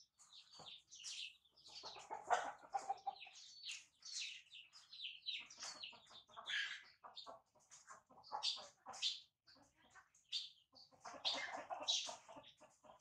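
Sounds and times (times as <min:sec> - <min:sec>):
birds chirping: 0:00.0 - 0:13.0
birds clucking: 0:00.0 - 0:13.0.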